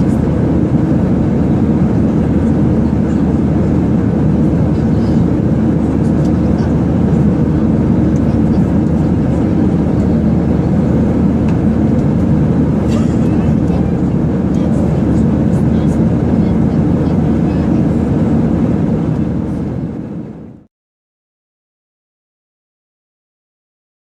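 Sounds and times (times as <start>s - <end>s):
airliner cabin engine rush: 0.0s - 20.7s.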